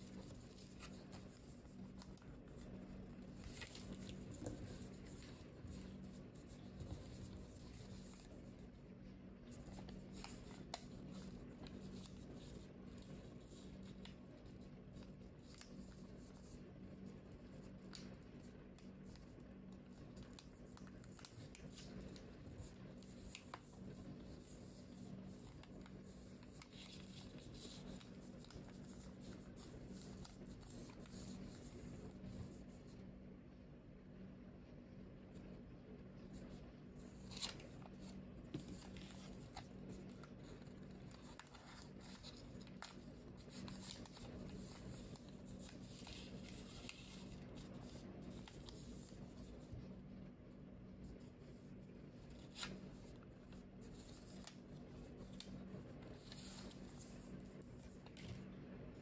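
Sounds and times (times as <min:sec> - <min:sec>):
paper being folded: 0:00.0 - 0:33.0, 0:36.2 - 0:49.9, 0:51.0 - 0:58.5
steady low hum: 0:00.0 - 0:59.0.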